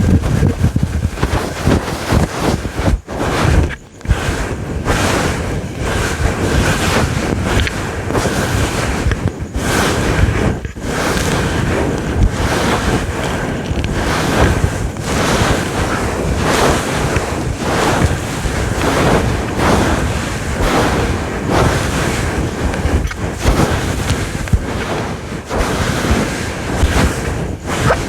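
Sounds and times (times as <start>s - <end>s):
fingers scratching furry windscreen: 0.0s - 28.0s.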